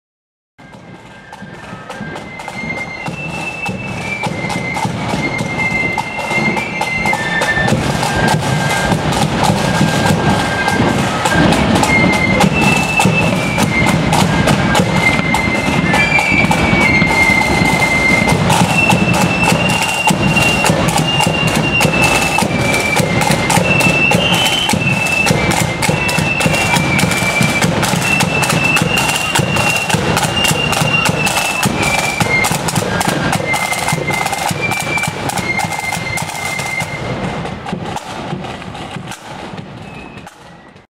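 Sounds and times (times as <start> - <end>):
flutes playing high melody: 0.6 - 38.4, 39.4 - 40.9
snare and bass drum beats: 0.6 - 40.9.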